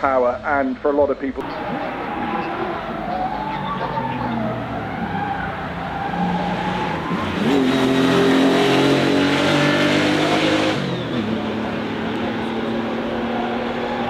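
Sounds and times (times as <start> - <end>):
car engine revving hard: 1.4 - 14.0.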